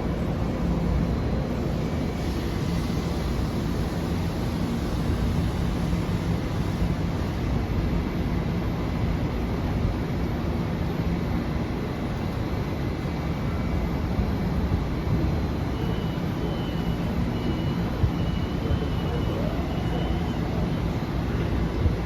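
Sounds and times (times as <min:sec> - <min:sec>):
train rumbling through station: 0:00.0 - 0:22.0.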